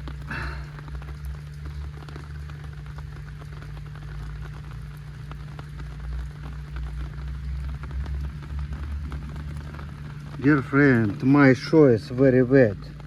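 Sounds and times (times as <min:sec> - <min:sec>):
heavy rain falling: 0:00.0 - 0:13.0
low hum: 0:00.0 - 0:13.0.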